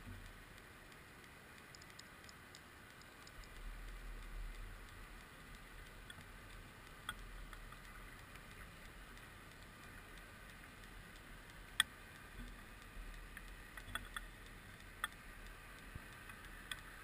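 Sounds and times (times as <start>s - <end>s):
underwater sharp clicks: 0.0s - 17.0s.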